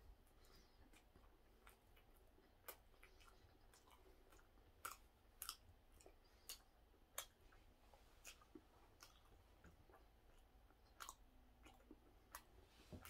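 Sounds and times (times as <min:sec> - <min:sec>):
faint chewing of soft bun: 0:00.0 - 0:13.0.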